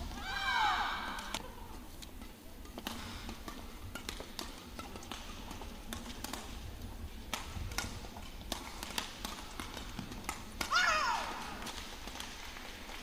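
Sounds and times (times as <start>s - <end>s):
rackets hitting shuttlecock: 2.1s - 13.0s.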